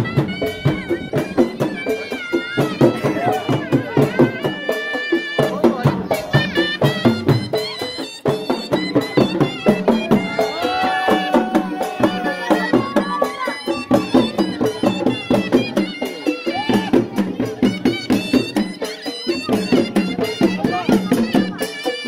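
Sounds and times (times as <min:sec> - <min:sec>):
drum beaten fast: 0:00.0 - 0:22.0
reedy wind instrument melody: 0:00.0 - 0:22.0.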